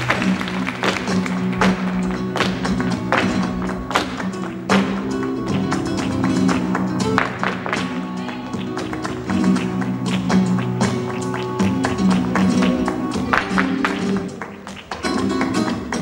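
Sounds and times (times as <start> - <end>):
sharp percussive accents: 0.0 - 15.4
flamenco guitar music: 0.0 - 16.0.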